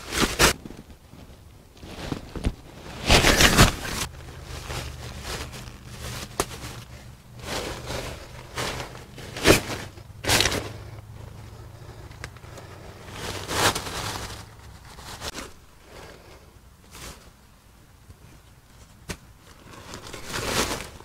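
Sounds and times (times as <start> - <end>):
tent nylon rustling: 0.0 - 17.6, 19.4 - 21.0.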